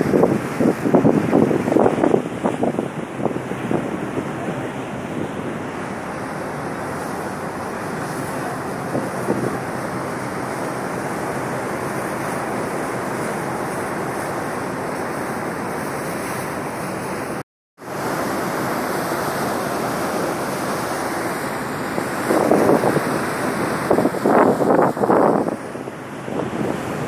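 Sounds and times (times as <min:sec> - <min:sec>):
wind buffeting microphone: 0:00.0 - 0:15.8, 0:19.6 - 0:27.0
ferry wake rushing and hissing: 0:00.0 - 0:27.0.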